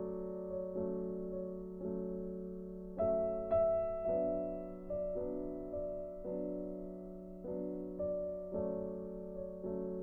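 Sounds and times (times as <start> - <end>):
soft keyboard chords: 0.0 - 10.0.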